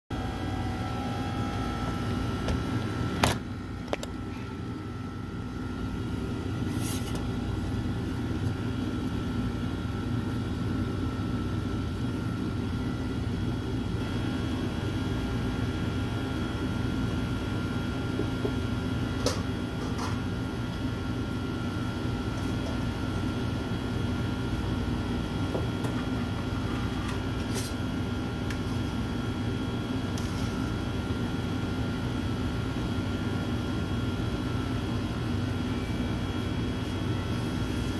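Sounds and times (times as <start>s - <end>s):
hum of bakery equipment: 0.1s - 37.9s.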